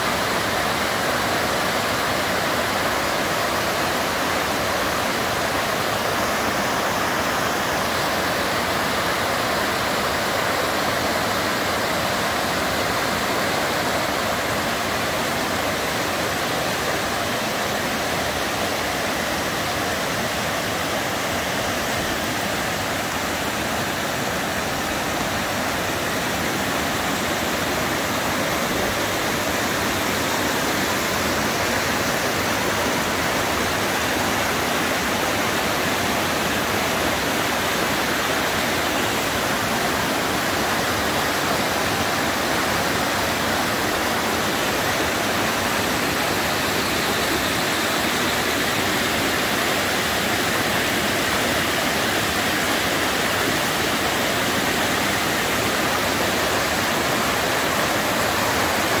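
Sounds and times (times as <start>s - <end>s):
waterfall rushing over rock: 0.0s - 59.0s.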